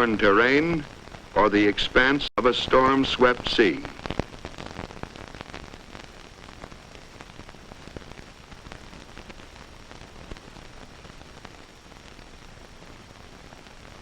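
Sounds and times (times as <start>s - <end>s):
crackling film soundtrack hiss: 0.0s - 14.0s.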